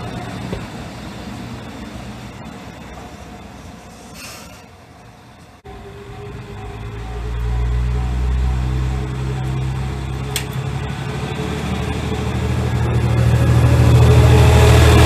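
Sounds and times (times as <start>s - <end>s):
diesel engine drone: 0.0s - 15.0s
wheel and rail noise: 0.0s - 15.0s.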